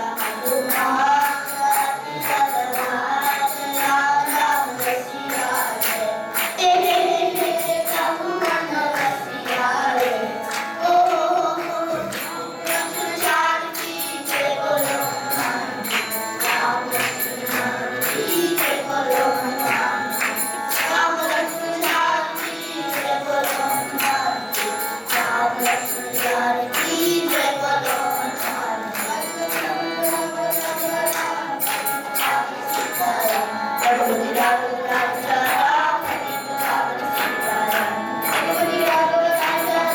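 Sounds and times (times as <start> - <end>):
devotional song with choir: 0.0 - 39.9
jingling percussion: 0.0 - 39.9.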